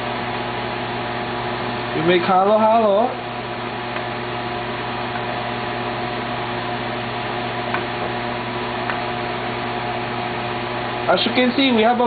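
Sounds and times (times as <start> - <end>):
electric motor hum with hiss: 0.0 - 12.0.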